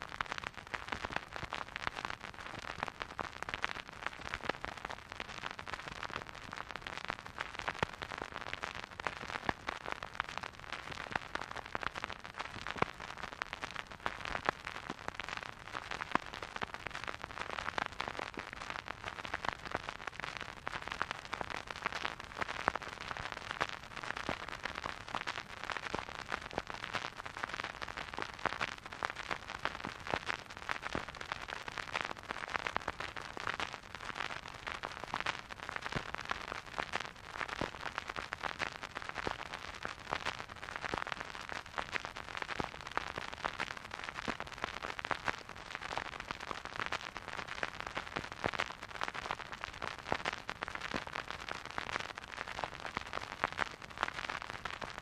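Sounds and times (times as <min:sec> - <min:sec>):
vinyl crackling and popping: 0:00.0 - 0:55.0
vinyl record hiss: 0:00.0 - 0:55.0.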